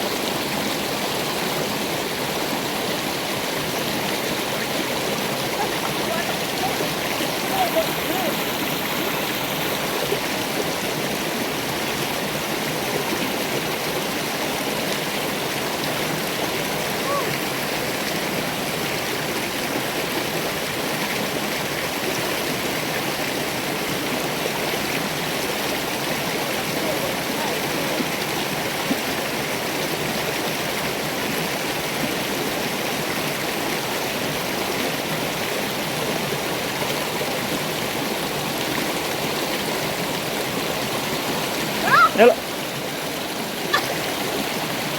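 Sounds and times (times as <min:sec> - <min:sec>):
river water flowing: 0:00.0 - 0:44.9.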